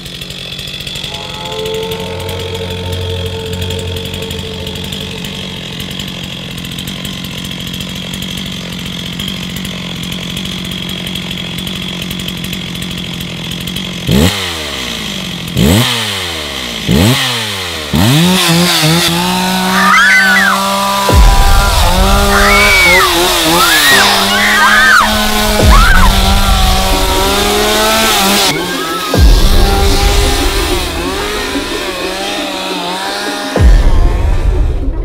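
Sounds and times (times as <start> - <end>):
chainsaw idling and revving: 0.0 - 35.0.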